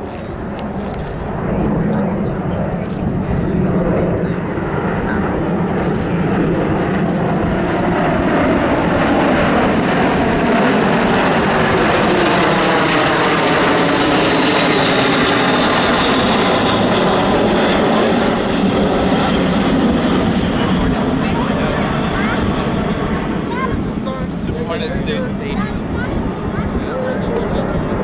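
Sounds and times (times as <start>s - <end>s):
jet aircraft flying overhead: 0.0s - 28.0s.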